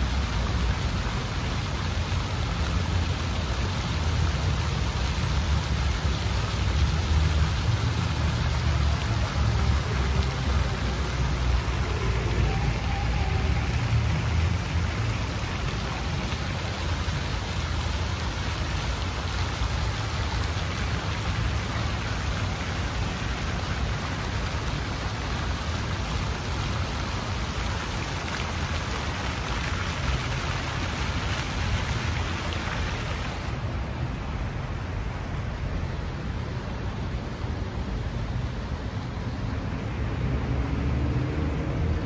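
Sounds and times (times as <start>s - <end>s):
fountain jets splashing into pool: 0.0s - 42.0s.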